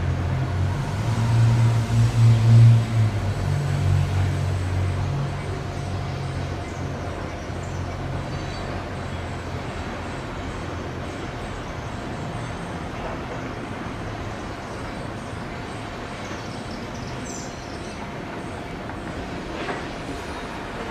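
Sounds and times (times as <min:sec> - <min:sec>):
distant diesel locomotive rumble: 0:00.0 - 0:20.9
outdoor noise: 0:00.0 - 0:20.9.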